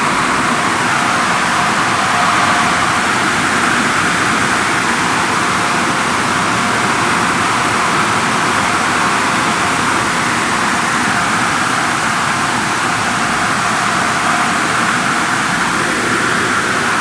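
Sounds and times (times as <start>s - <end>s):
car wash equipment rushing: 0.0s - 17.0s.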